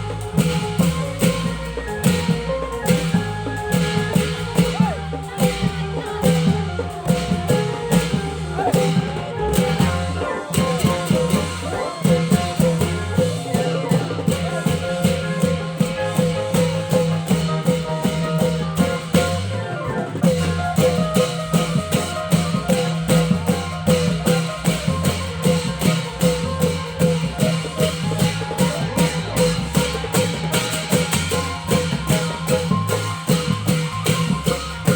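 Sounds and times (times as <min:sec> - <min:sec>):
drum band playing: 0:00.0 - 0:34.9.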